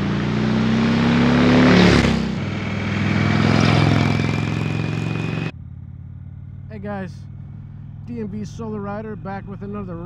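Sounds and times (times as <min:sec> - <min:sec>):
motorcycle passing by: 0:00.0 - 0:09.6.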